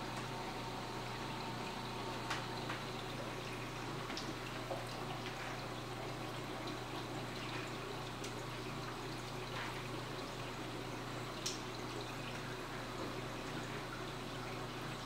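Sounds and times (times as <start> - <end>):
faint water drips: 0.0 - 15.0
low pump hum: 0.0 - 15.0.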